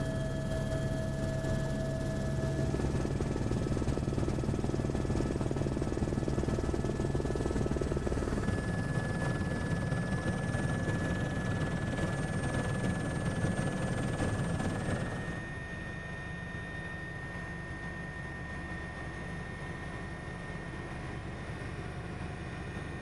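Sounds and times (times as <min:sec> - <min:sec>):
helicopter engine and rotor noise: 0:00.0 - 0:23.0.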